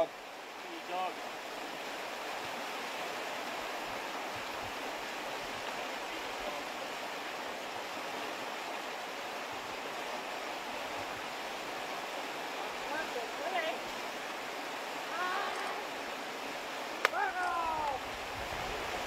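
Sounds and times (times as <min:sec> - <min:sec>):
floodwater rushing over concrete: 0:00.0 - 0:19.0.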